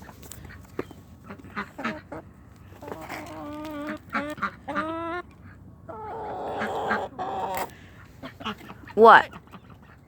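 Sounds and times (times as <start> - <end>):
ducks quacking: 0.4 - 10.0.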